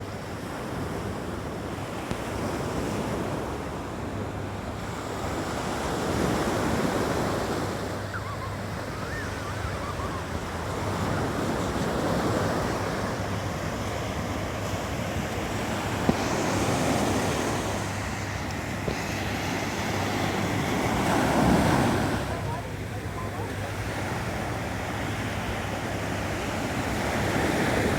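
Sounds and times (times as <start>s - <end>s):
ocean waves breaking on beach: 0.0s - 27.9s.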